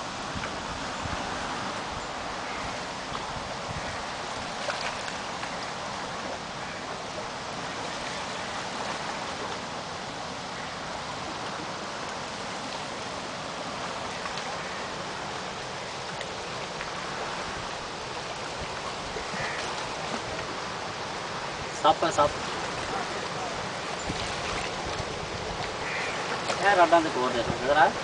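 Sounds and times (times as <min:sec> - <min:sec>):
river water rushing on rocks: 0:00.0 - 0:28.0.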